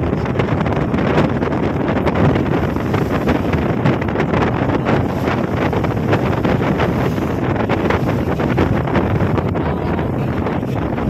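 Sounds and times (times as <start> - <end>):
boat under way on rough sea: 0.0 - 11.0
wind gusting on microphone: 0.0 - 11.0.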